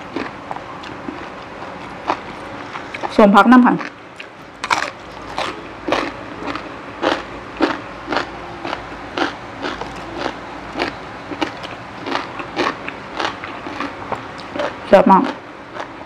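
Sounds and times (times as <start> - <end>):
crunching raw vegetables: 0.0 - 15.9.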